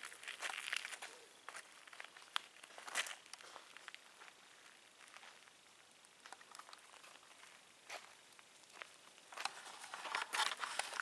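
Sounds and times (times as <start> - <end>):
footsteps crunching on gravel: 0.0 - 11.0.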